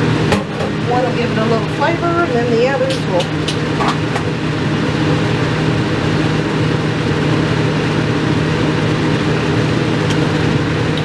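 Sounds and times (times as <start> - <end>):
mechanical drone with low hum: 0.0 - 11.0.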